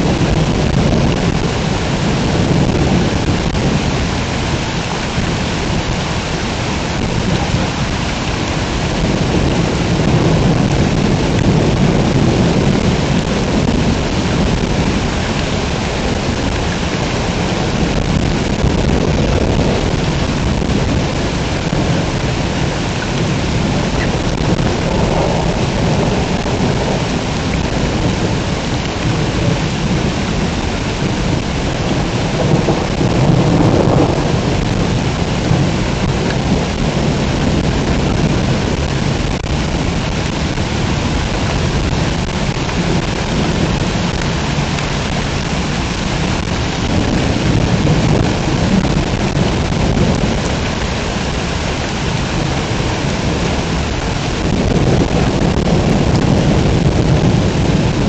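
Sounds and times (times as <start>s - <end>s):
heavy rain pouring: 0.0s - 58.0s
thunder rumbling: 0.0s - 58.0s.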